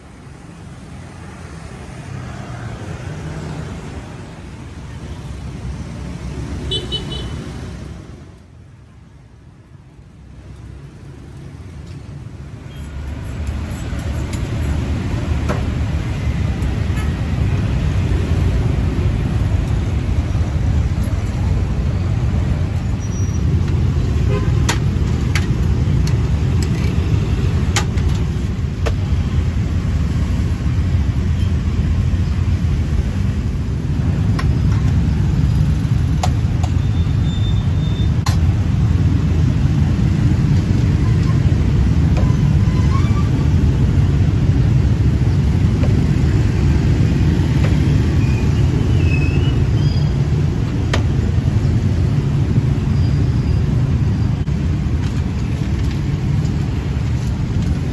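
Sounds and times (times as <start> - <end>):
cars and motorbikes passing: 0.0 - 57.9
road traffic rumble: 0.0 - 57.9.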